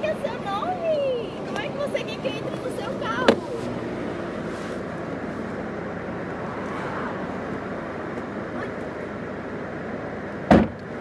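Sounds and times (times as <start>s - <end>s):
vehicle and street noise: 0.0s - 11.0s.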